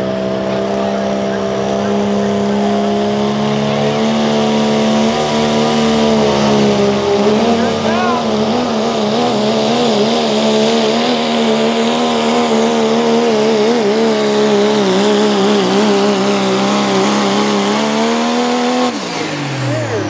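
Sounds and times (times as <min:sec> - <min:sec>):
diesel truck engine at full throttle: 0:00.0 - 0:20.0.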